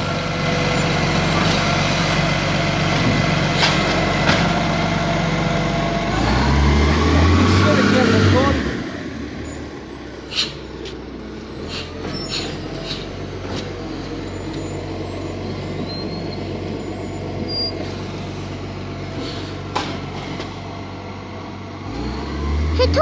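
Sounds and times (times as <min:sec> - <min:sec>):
garbage truck engine running: 0:00.0 - 0:23.0.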